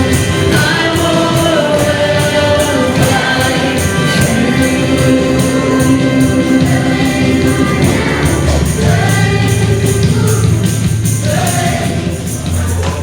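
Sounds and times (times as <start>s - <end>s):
band with bass and percussion: 0.0s - 13.0s
choir and congregation singing: 0.0s - 13.0s.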